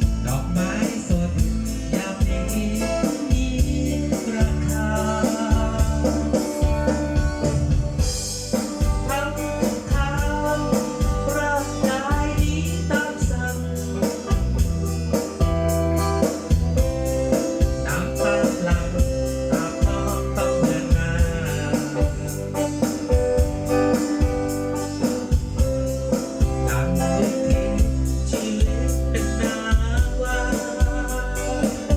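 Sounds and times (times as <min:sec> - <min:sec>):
song over outdoor speakers: 0:00.0 - 0:31.9.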